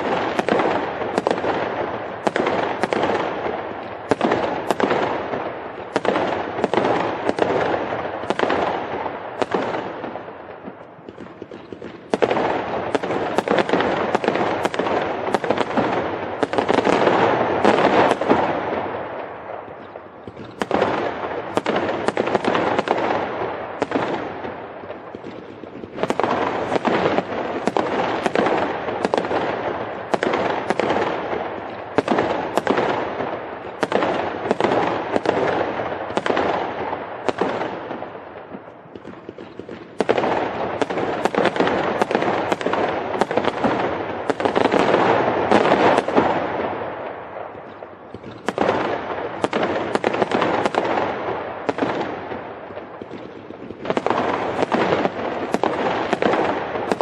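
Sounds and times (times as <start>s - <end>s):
firecrackers crackling: 0.0s - 57.0s
fireworks bangs: 0.0s - 57.0s.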